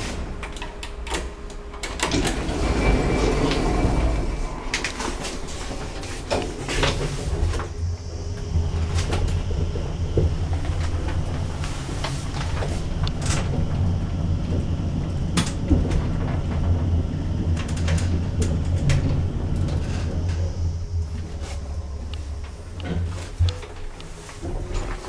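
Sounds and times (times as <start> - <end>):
lift machinery humming: 0.0 - 25.0.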